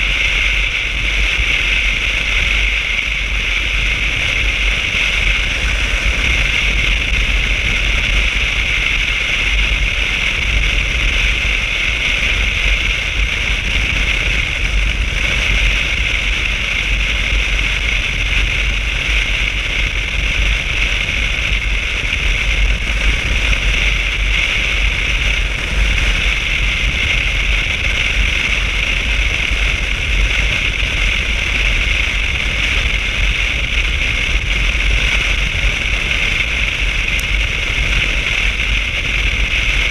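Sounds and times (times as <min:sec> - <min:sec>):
motorcycle engine rumble: 0:00.0 - 0:39.9
wind and road noise: 0:00.0 - 0:39.9.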